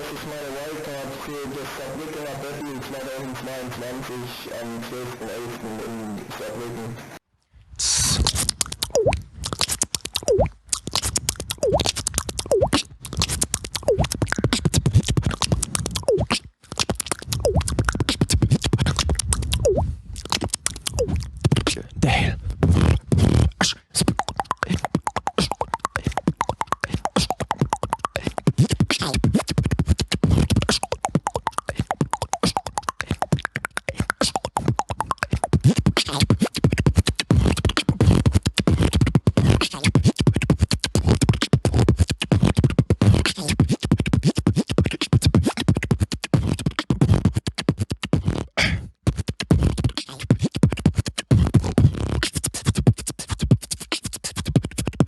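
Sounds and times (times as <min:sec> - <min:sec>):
beatboxing: 0:00.0 - 0:07.2, 0:07.8 - 0:55.0
vocal bass line: 0:00.0 - 0:07.2, 0:07.8 - 0:55.0
vocal scratch effects: 0:00.0 - 0:07.2, 0:07.8 - 0:55.0.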